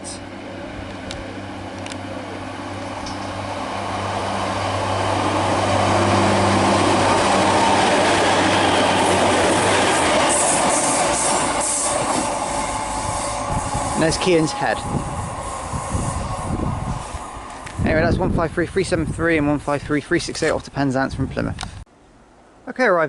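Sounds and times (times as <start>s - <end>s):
diesel railcars passing: 0.0s - 20.5s.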